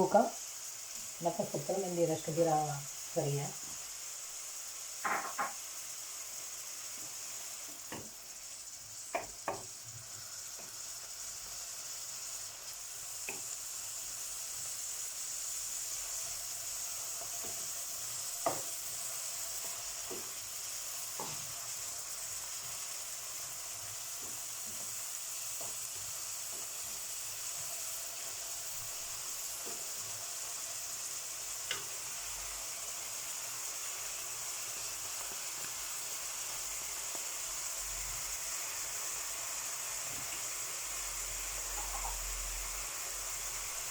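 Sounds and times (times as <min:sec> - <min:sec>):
vegetables sizzling in oil: 0:00.0 - 0:43.9.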